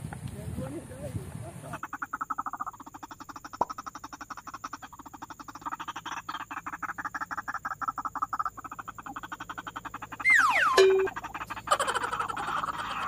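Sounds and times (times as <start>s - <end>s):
waterhen croaking chatter: 0.6s - 13.0s.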